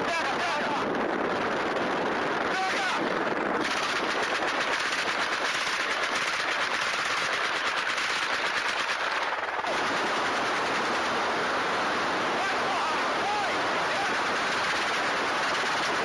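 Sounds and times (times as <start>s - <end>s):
helicopter noise: 0.0s - 16.0s
rapid automatic gunfire: 0.0s - 16.0s.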